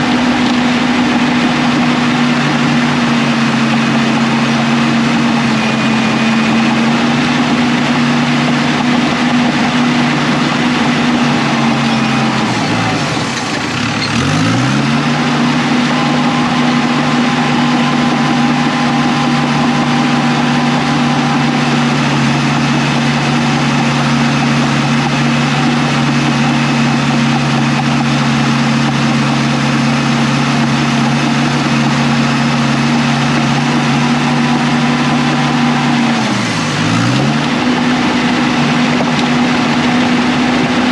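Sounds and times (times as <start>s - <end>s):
diesel engine running at high revs: 0.0s - 40.9s.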